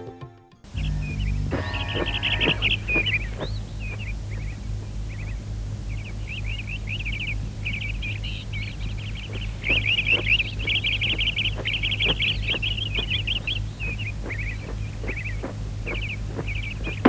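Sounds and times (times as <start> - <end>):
high chirping and twittering: 0.6 - 17.0
steady low hum: 0.6 - 17.0.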